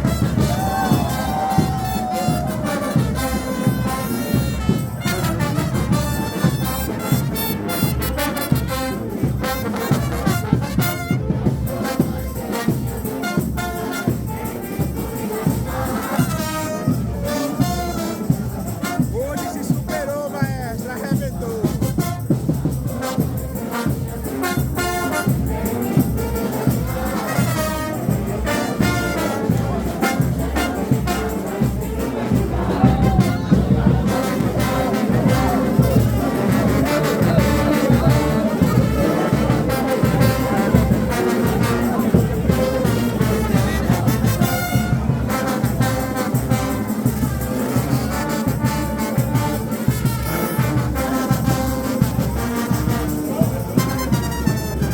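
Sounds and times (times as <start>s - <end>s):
steady drumming: 0.0s - 54.9s
trumpets and trombones: 0.0s - 54.9s.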